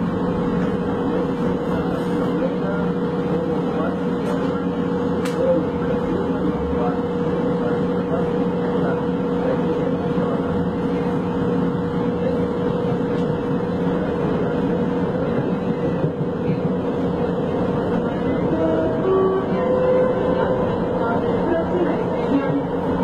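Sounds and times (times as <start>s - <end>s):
rail car rumbling on track: 0.0s - 23.0s.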